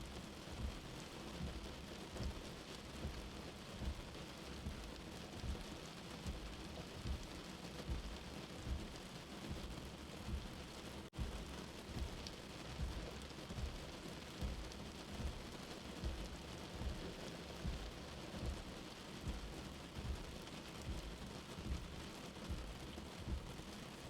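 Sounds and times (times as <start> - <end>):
low heartbeat-like thump: 0.0 - 23.9
steady rain: 0.0 - 24.0.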